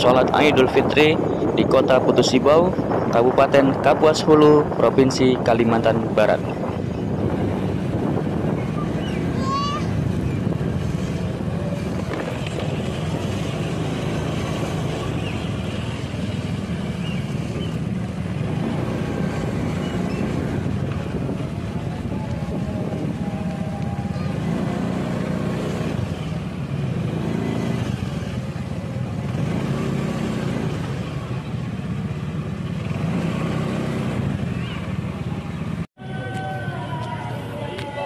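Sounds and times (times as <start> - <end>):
motorcycle and traffic rumble: 0.0 - 38.0.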